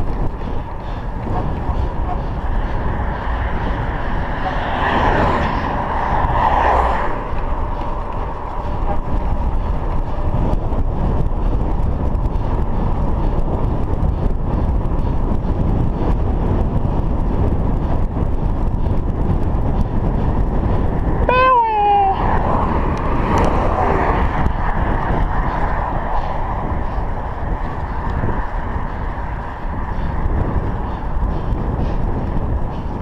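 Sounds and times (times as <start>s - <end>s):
car passing: 0.0s - 33.0s
wind noise on microphone: 0.0s - 33.0s.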